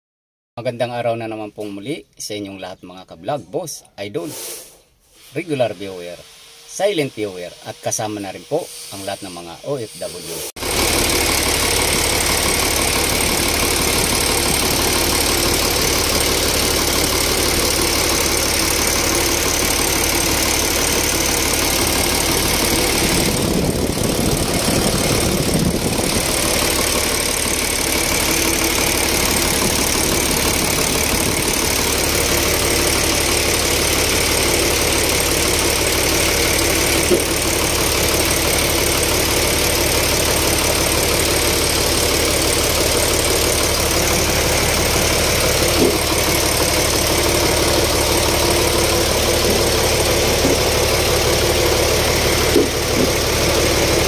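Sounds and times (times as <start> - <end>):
diesel engine idling: 10.6 - 54.0.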